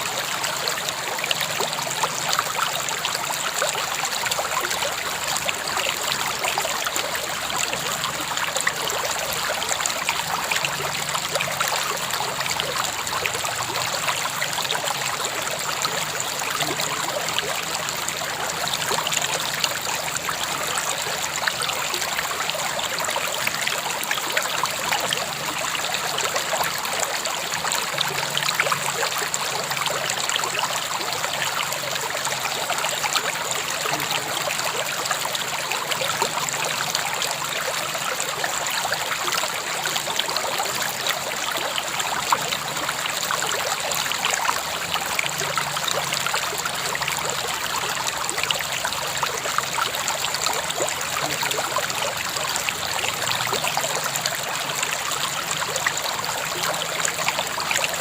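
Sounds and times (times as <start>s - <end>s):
river water babbling over stones: 0.0s - 58.0s.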